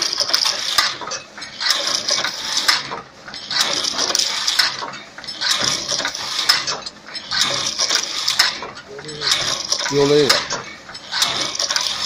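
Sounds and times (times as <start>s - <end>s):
wire mesh machine clattering: 0.0s - 12.0s.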